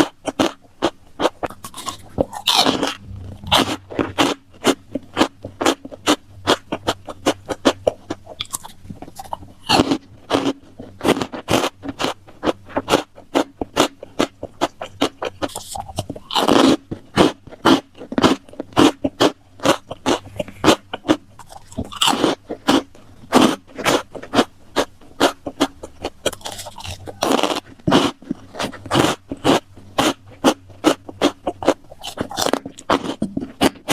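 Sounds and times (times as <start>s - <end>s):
crunchy food being chewed: 0.0s - 33.9s
wet chewing sounds: 0.0s - 33.9s.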